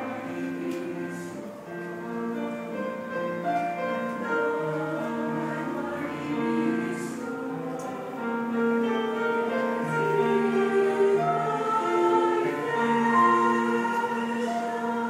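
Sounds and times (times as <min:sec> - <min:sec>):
choir singing through television speakers: 0:00.0 - 0:15.0.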